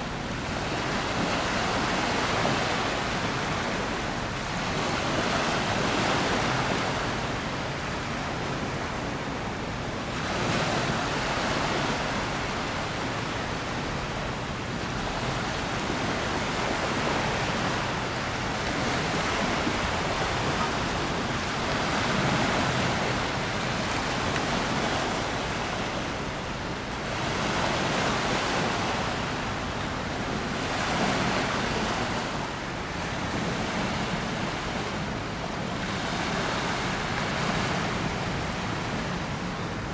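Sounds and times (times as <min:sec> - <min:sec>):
river water at shore: 0:00.0 - 0:39.9
wind: 0:00.0 - 0:39.9.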